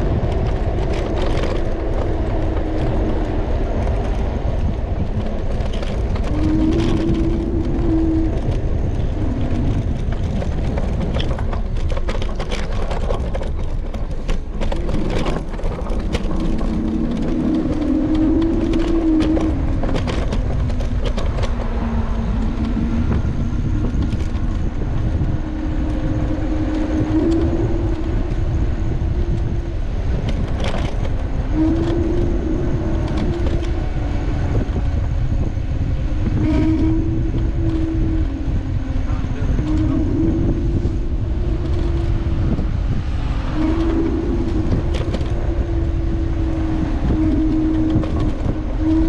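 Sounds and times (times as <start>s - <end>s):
vehicle rumble: 0.0s - 49.0s.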